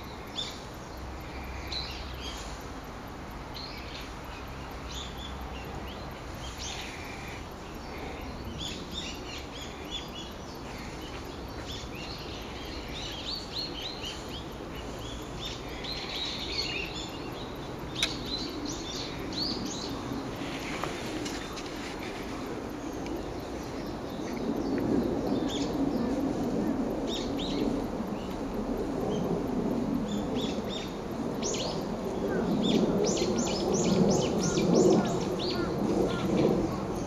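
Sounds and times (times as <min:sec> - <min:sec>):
low background rumble: 0:00.0 - 0:37.0
songbirds chirping and trilling: 0:00.0 - 0:37.0.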